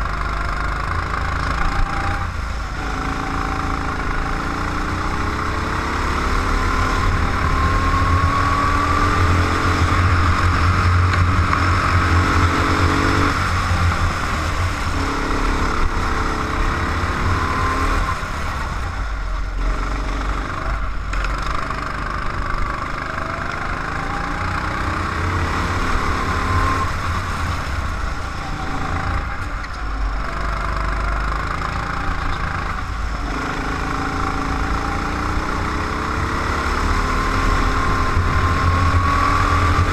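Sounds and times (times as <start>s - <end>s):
go-kart engine rising and falling: 0.0s - 39.9s.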